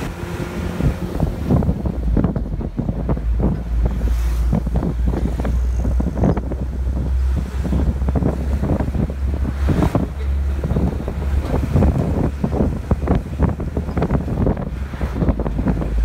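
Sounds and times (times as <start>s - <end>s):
vehicle rumble driving on road: 0.0s - 16.0s
wind buffeting microphone: 0.0s - 16.0s.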